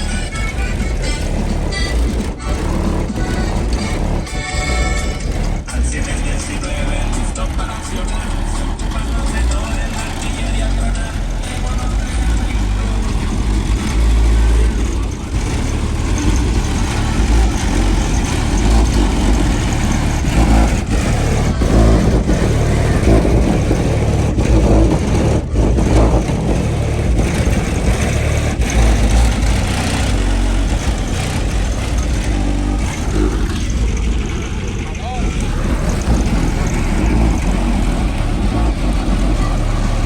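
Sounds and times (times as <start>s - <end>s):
engine revving: 0.0s - 40.0s
motor vehicle engines rumbling: 0.0s - 40.0s.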